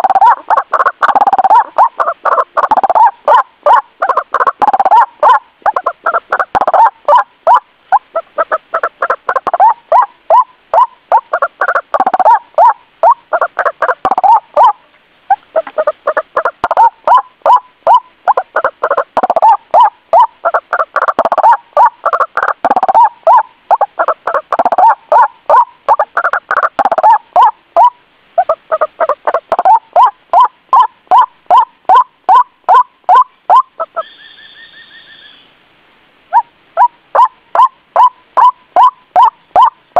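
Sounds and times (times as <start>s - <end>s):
bird calling repeated notes: 0.0s - 35.6s, 36.3s - 39.9s.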